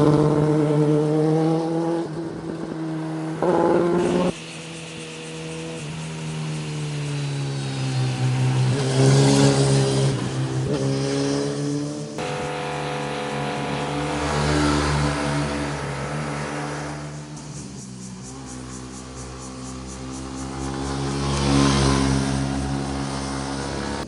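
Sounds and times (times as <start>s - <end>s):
motorcycle engines revving past: 0.0s - 24.0s.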